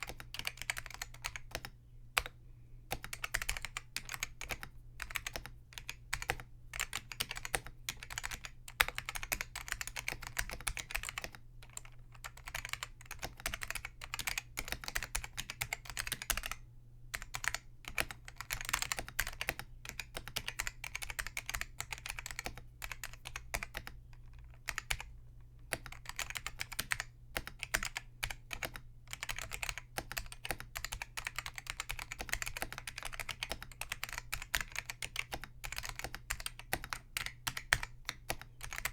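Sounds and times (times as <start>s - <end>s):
fast typing on keyboard: 0.0s - 16.6s, 17.2s - 25.1s, 25.7s - 38.9s.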